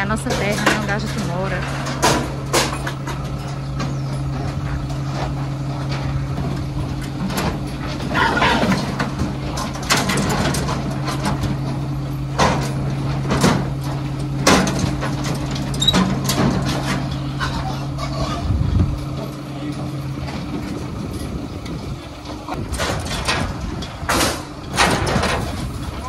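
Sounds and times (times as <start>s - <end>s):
knocks and clatter: 0.0s - 26.0s
truck engine humming: 0.0s - 26.0s.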